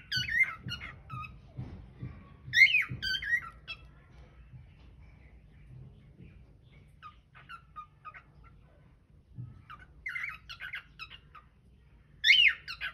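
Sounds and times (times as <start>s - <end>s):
cockatiels chirping: 0.0s - 12.9s.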